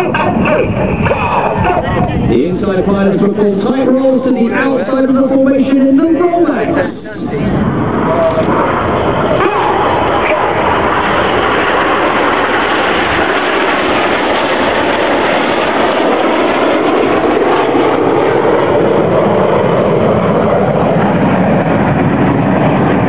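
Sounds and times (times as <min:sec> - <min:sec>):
jets flying overhead: 0:00.0 - 0:23.0.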